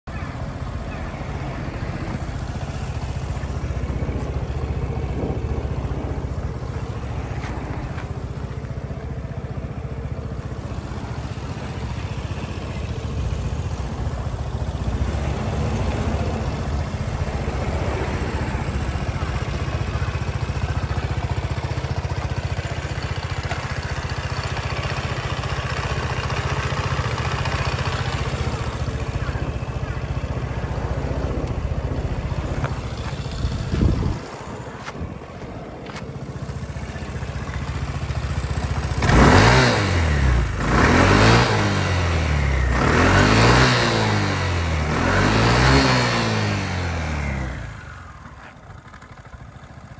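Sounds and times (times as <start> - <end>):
scooter engine idling: 0.0 - 49.9.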